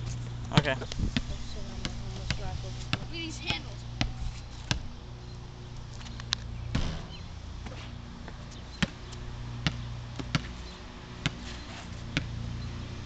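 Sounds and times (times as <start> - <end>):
basketball bouncing on asphalt: 0.0 - 13.0.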